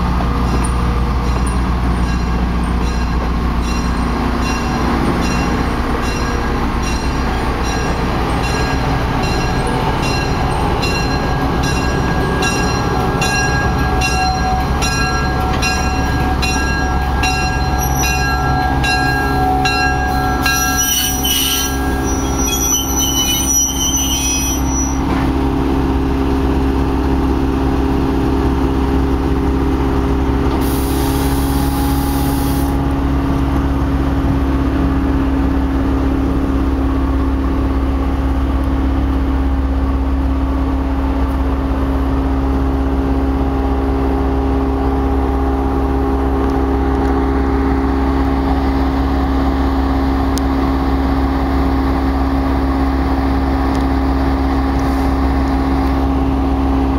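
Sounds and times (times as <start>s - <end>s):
locomotive engine droning: 0.0s - 56.9s.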